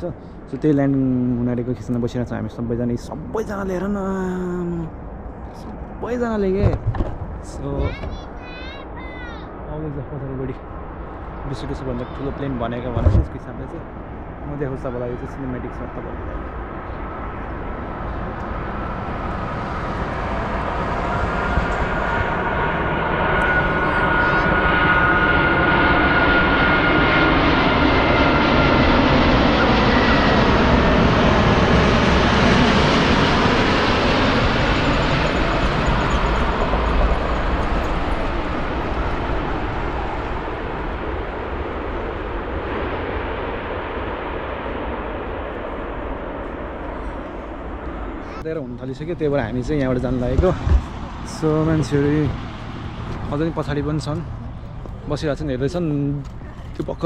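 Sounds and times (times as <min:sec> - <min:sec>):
jet airliner passing overhead: 0:00.0 - 0:57.0
thin high engine whine: 0:09.5 - 0:57.0.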